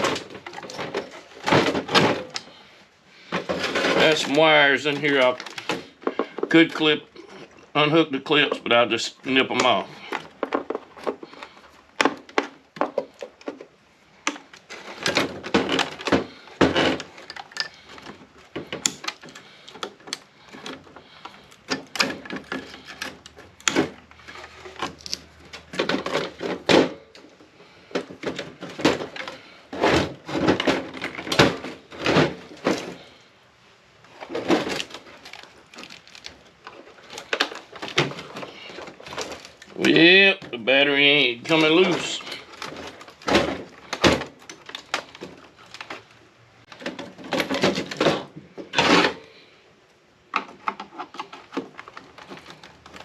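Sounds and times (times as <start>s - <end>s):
hand tools clattering on plastic and metal: 0.0s - 33.2s, 34.1s - 49.5s, 50.3s - 53.0s.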